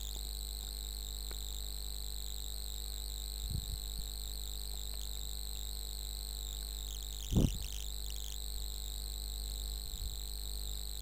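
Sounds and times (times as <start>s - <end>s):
faint high-pitched whine: 0.0s - 11.0s
low electrical hum: 0.0s - 11.0s.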